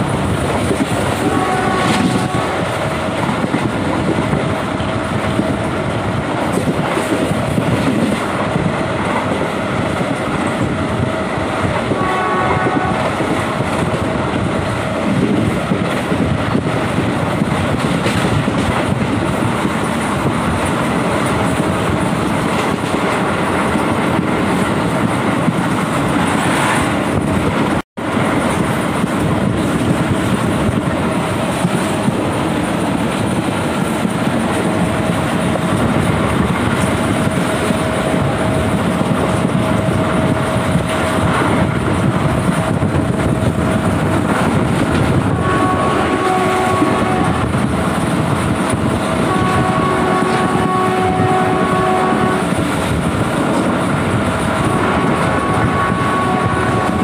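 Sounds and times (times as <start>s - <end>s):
train running on track: 0.0s - 57.0s.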